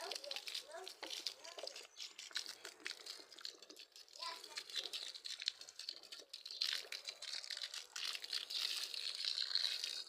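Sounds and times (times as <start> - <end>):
water splashing onto plants and soil: 0.0 - 10.0.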